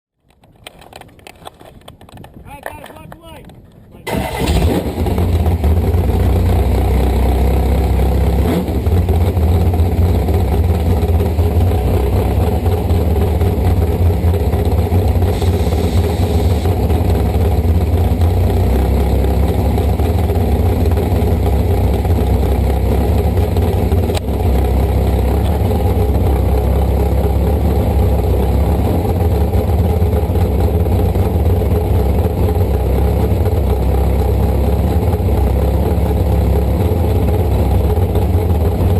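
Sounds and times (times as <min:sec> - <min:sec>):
boat engine running loudly: 0:04.4 - 0:38.9.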